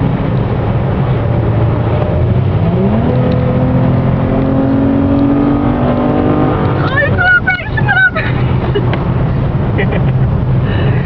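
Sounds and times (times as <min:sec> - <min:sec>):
car engine accelerating: 0:00.0 - 0:10.7.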